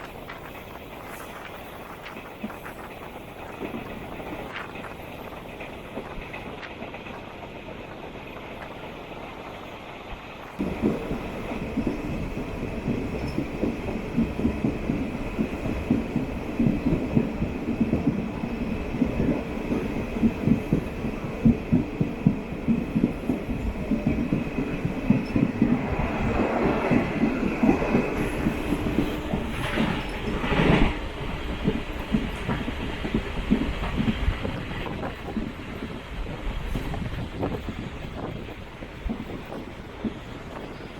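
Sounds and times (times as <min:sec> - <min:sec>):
steady train hum: 0:00.0 - 0:40.9
train wheels clattering over rail joints: 0:00.0 - 0:40.9.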